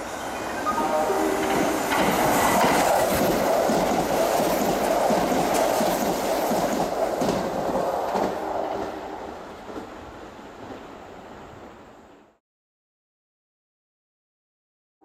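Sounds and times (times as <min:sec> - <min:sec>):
train passing at high speed: 0:00.0 - 0:12.4.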